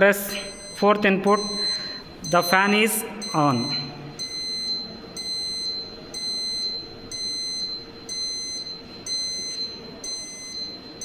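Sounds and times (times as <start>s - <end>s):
high-pitched alarm buzzer beeps: 0.0s - 11.0s
steady low hum: 0.0s - 11.0s.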